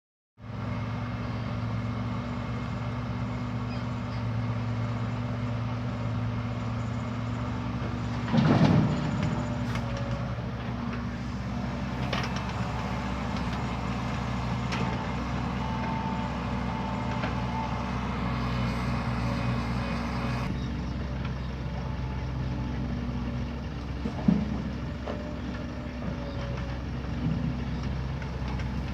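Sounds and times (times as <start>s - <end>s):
heavy machinery diesel engine: 0.4s - 28.9s.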